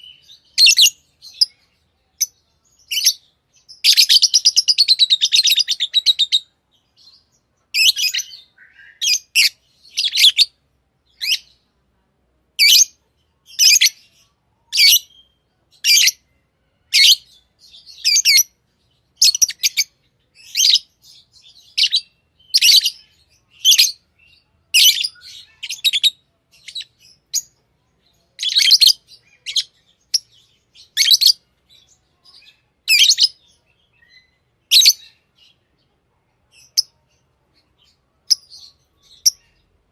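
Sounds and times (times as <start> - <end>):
bird chirping: 0.0 - 11.8, 12.6 - 39.9.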